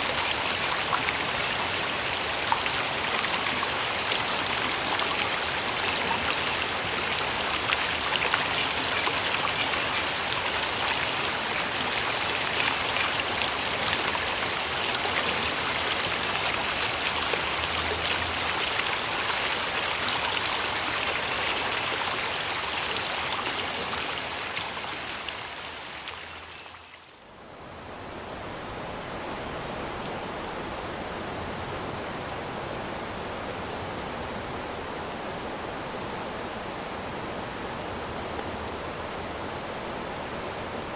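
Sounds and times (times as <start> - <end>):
smooth rush of water: 0.0 - 40.9
stream water rushing: 0.0 - 40.9.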